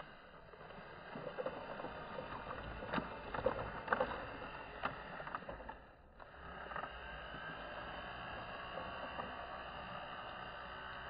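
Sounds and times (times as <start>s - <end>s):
toy excavator tracks on sand: 0.0s - 11.0s.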